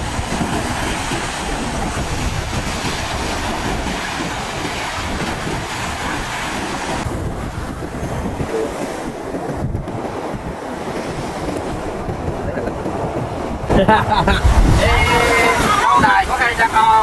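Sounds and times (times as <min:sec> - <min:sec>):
sea waves at shore: 0:00.0 - 0:17.0
wind buffeting microphone: 0:00.0 - 0:17.0.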